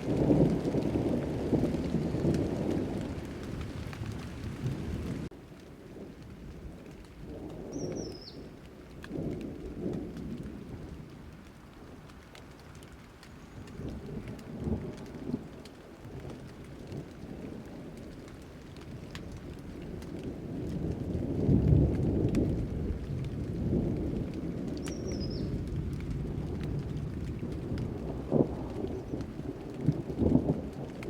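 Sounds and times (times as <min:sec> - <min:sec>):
steady rain: 0:00.0 - 0:31.0
thunder rumbling: 0:00.0 - 0:31.0
water dripping: 0:00.0 - 0:31.0.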